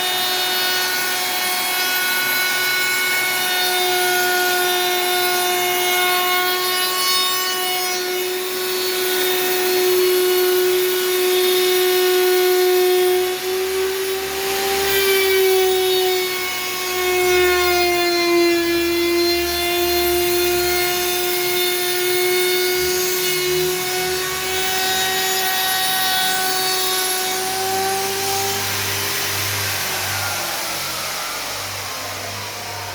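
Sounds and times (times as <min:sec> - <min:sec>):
power tool whining: 0:00.0 - 0:32.9.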